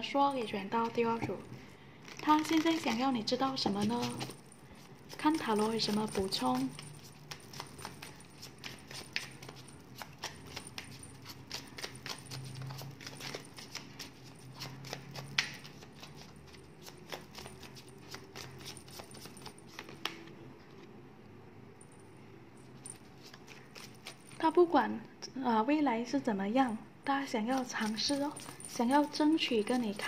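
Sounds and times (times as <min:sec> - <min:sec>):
cards being shuffled: 0:00.3 - 0:20.9, 0:22.8 - 0:24.4, 0:27.5 - 0:30.0.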